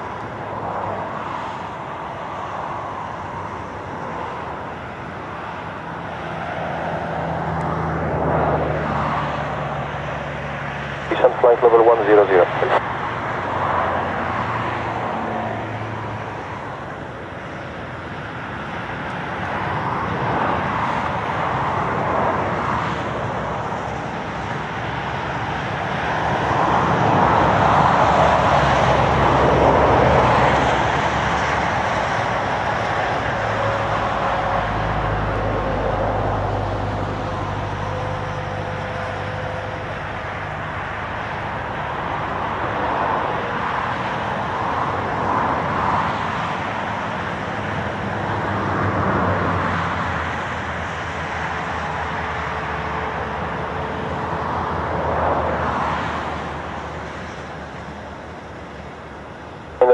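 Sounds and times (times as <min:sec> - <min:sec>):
jet airliner rumble: 0:00.0 - 0:59.9.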